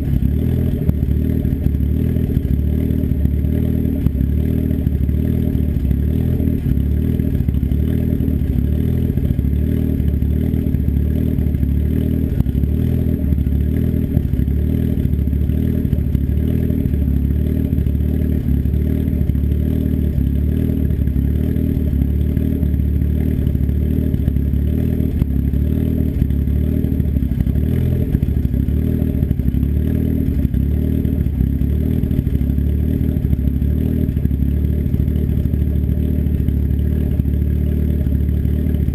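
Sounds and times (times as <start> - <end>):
engine idling pulsing: 0.0 - 38.9.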